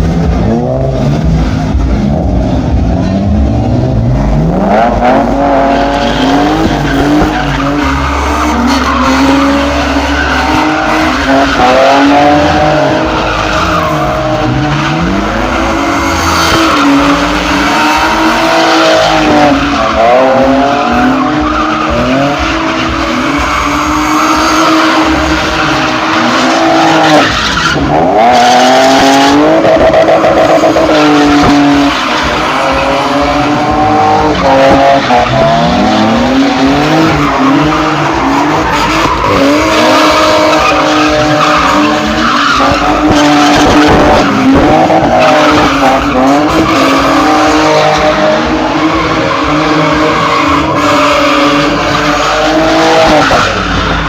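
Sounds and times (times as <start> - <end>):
car engine revving: 0.0 - 54.0
tyres squealing and skidding: 0.2 - 54.0.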